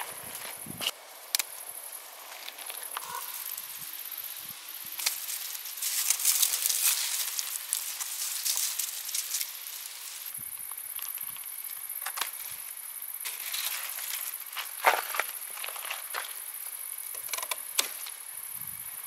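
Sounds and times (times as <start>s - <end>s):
leaves and vines rustling: 0.0s - 17.0s.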